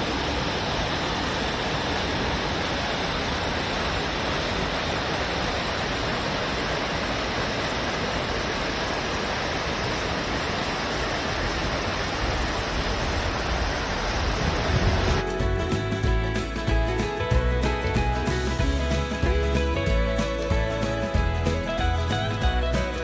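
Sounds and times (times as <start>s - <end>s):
waterfall splashing: 0.0s - 23.0s.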